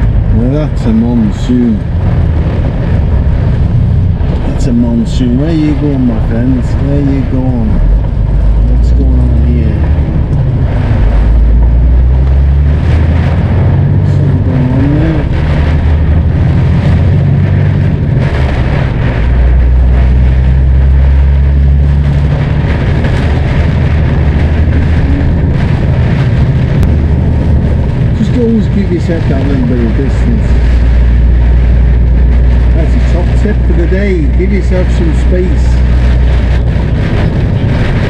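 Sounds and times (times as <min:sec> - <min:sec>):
heavy rain and road spray: 0:00.0 - 0:38.0
lorry engine running: 0:00.0 - 0:38.0.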